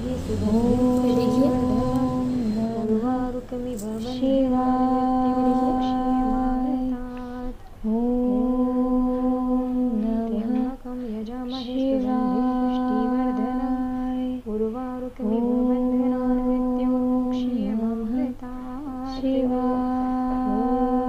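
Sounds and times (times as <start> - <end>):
devotional chanting: 0.0 - 21.0.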